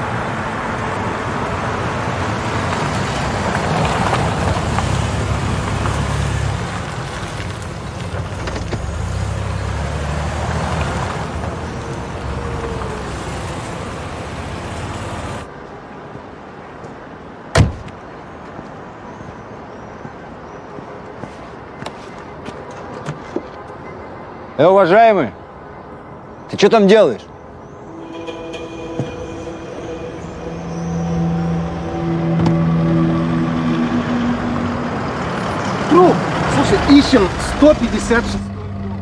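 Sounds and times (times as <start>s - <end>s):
car engine and tyre rumble: 0.0s - 23.9s, 30.2s - 39.0s
outdoor background noise: 0.0s - 39.0s.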